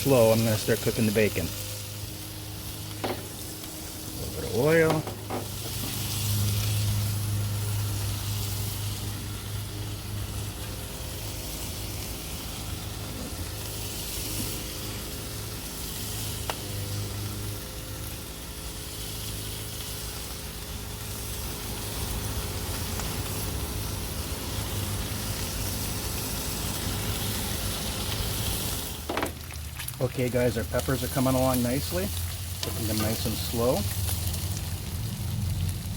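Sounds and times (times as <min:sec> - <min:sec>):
lawn mower engine hum: 0:00.0 - 0:29.5
vegetables sizzling in oil: 0:00.0 - 0:35.9.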